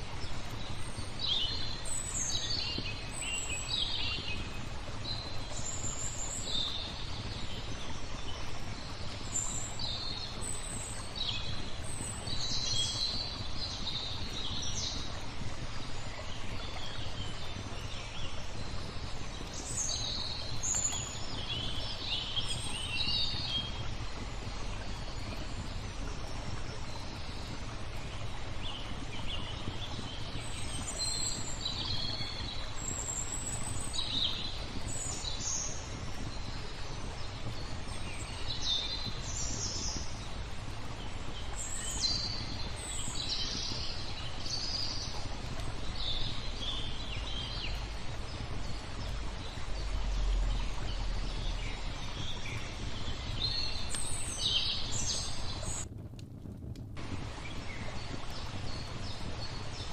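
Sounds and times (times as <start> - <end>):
small birds chirping and trilling: 0.0 - 55.9
low background noise: 0.0 - 59.9.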